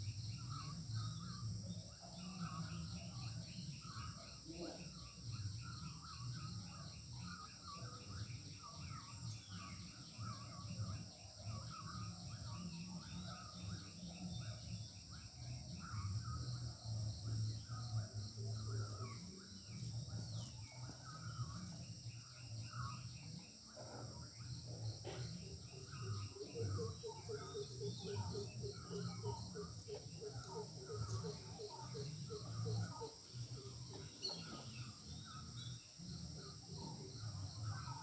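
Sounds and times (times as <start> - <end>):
bird chirps: 0.0 - 38.0
insect drone: 0.0 - 38.0.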